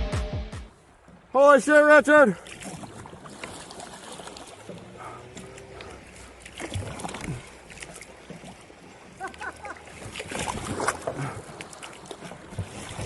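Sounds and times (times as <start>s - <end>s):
paddle knocks and splashes: 0.6s - 13.0s.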